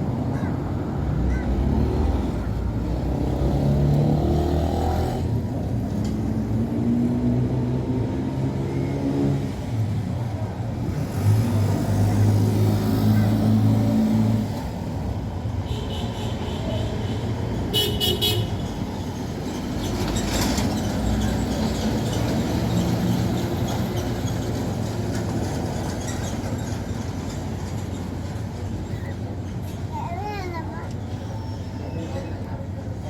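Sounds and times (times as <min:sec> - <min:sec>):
vehicle engines running: 0:00.0 - 0:33.0.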